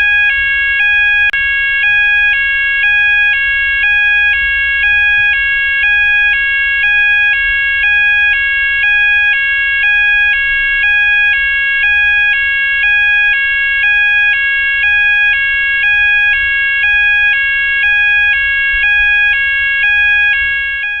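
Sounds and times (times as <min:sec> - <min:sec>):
two-tone fire alarm: 0:00.0 - 0:21.0.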